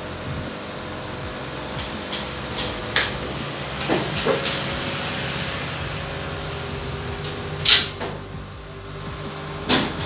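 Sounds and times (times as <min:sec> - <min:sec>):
mechanical hum with hiss: 0:00.0 - 0:10.0.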